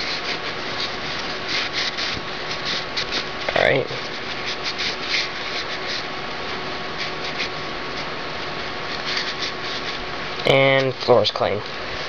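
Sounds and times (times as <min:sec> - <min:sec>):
paper towel rubbing and rustling: 0:00.0 - 0:11.3.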